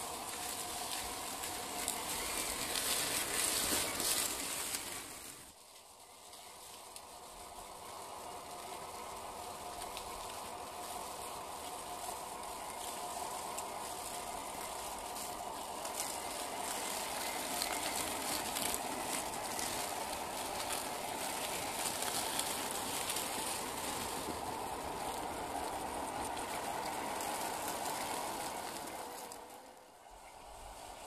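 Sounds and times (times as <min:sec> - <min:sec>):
dry leaves crackling: 0:00.0 - 0:31.0.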